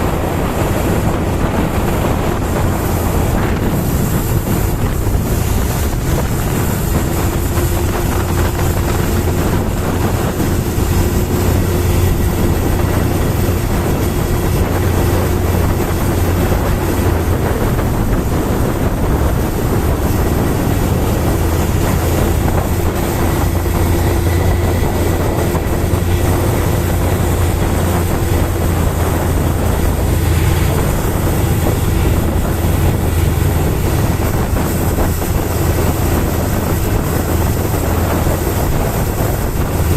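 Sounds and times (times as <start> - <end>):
rushing noise: 0.0 - 39.9
ship engine drone: 0.0 - 39.9.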